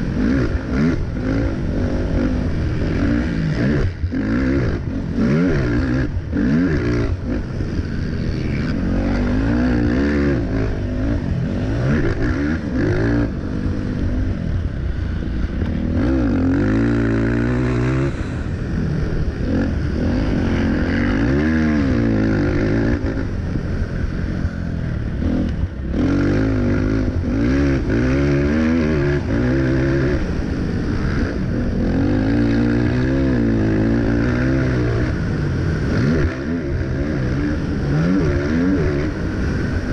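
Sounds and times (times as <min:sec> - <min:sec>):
quad engine revving hard: 0:00.0 - 0:14.1, 0:15.8 - 0:18.4, 0:19.1 - 0:23.4, 0:25.2 - 0:39.9.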